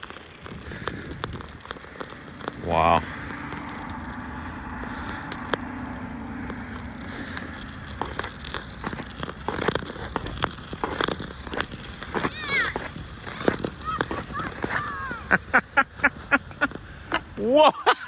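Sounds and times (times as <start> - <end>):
ice skates gliding hiss: 0.0 - 18.0
skate blades scraping ice: 0.0 - 18.0.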